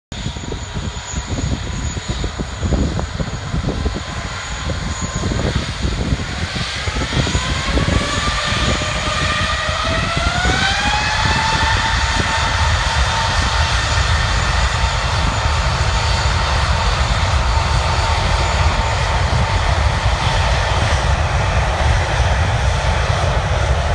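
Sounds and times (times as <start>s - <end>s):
jet engines spooling up: 0.2s - 23.9s.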